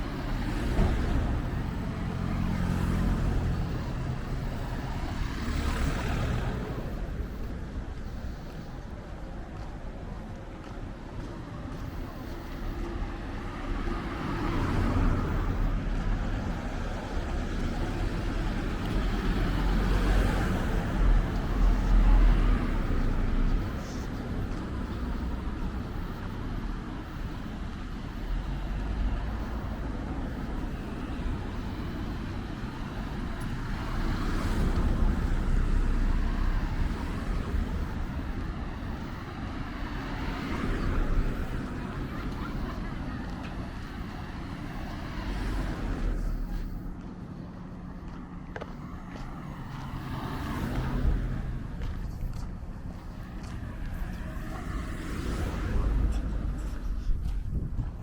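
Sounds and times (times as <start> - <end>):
low traffic rumble: 0.0 - 58.0
vehicles passing: 0.0 - 58.0.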